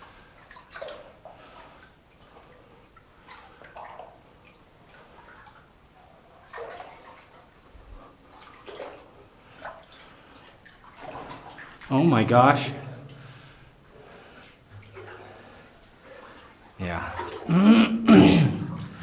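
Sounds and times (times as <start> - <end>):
water sloshing from wading: 0.0 - 19.0.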